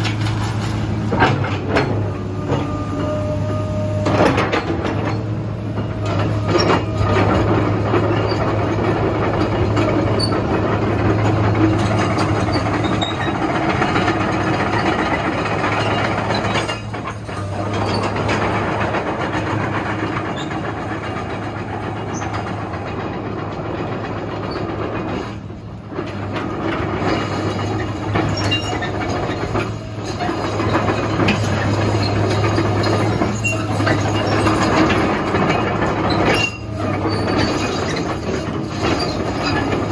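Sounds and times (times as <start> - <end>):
diesel engine drone: 0.0 - 39.9
hydraulics working: 0.0 - 39.9.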